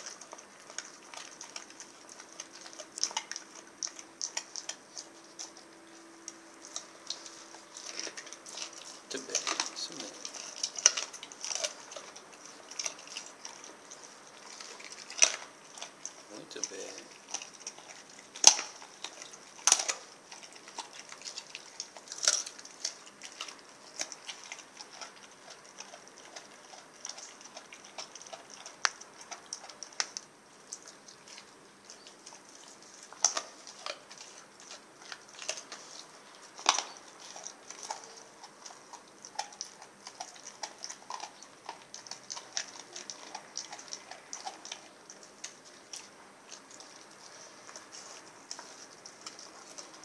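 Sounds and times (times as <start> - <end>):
dog crunching meat and bone: 0.0 - 50.0.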